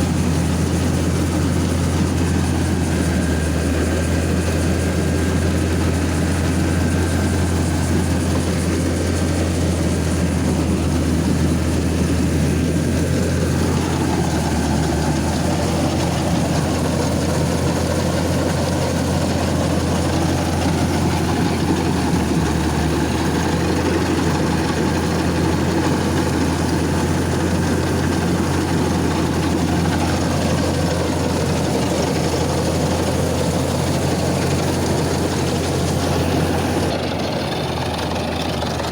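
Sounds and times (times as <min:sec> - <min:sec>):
diesel engine droning: 0:00.0 - 0:38.9
machinery noise: 0:00.0 - 0:38.9.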